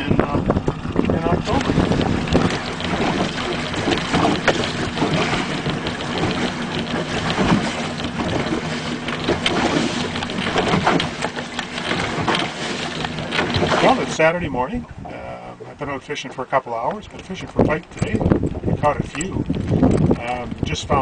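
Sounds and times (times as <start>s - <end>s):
wind buffeting microphone: 0.0s - 15.6s, 16.9s - 21.0s
outboard motor running: 0.0s - 21.0s
water splashing against hull: 0.0s - 21.0s.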